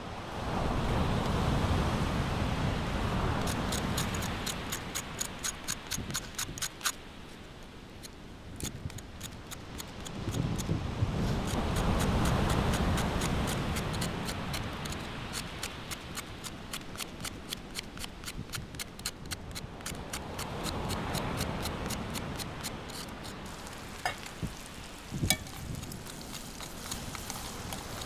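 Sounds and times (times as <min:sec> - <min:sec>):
knife scraping charred skin: 0:03.4 - 0:07.4, 0:08.0 - 0:10.7, 0:11.3 - 0:28.0.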